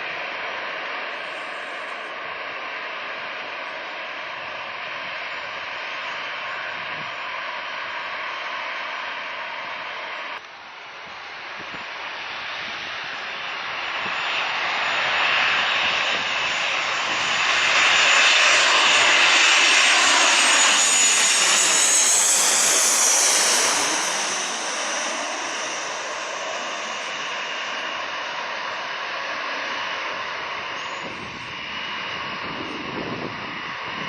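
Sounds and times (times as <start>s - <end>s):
jet engine whine: 0.0s - 34.0s
jet airliner passing: 0.3s - 34.0s.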